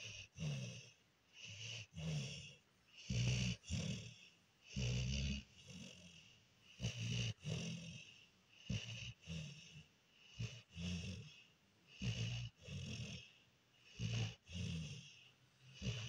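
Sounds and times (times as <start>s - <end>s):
dog snoring: 0.0s - 16.0s.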